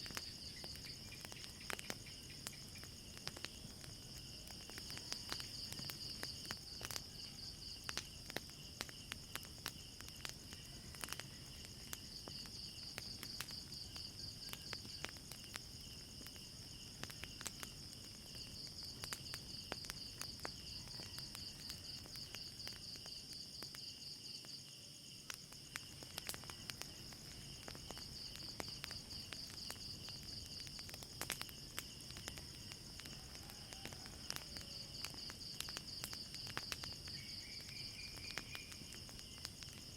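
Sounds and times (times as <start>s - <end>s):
crickets chirping: 0.0s - 39.9s
wood fire crackling: 0.0s - 39.9s.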